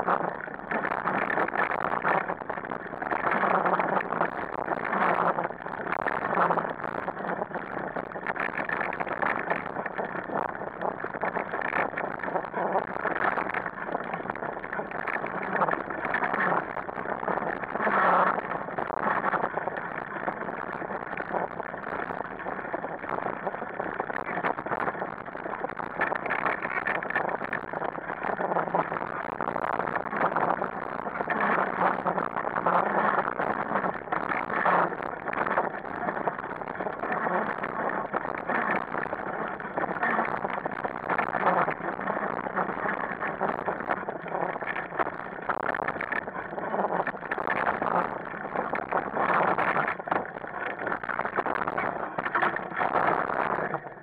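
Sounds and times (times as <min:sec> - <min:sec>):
wheel and trail noise: 0:00.0 - 0:54.0.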